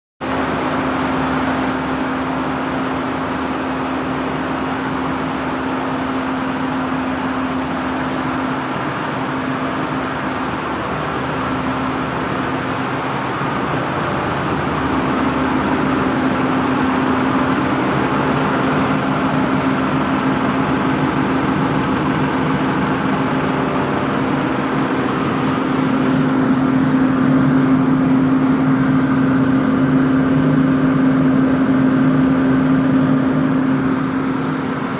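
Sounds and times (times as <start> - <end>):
milling machine humming: 0.3 - 34.9.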